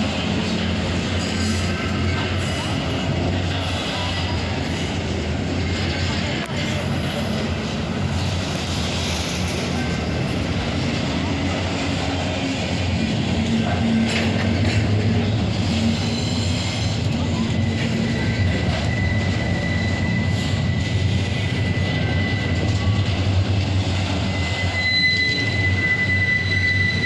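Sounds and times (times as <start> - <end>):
freight train wheels rumbling: 0.0 - 27.0
high wheel squeal: 0.0 - 27.0.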